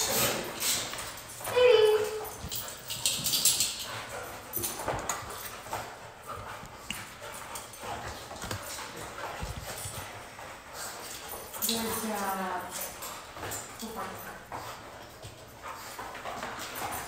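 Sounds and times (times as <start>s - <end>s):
paws knocking on floor and pen: 0.0s - 17.0s.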